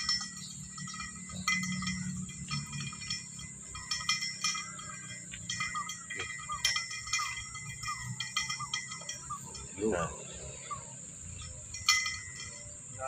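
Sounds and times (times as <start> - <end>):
cable clinking and scraping in pipe: 0.0 - 13.0.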